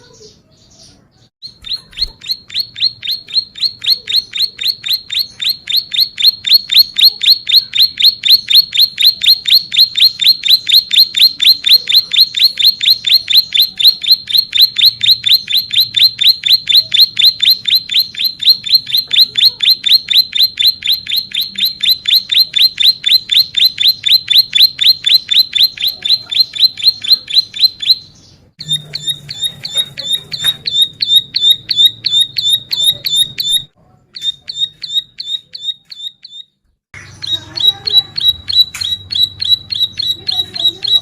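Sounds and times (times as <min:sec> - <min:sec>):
bird singing high repeated notes: 0:01.4 - 0:41.0.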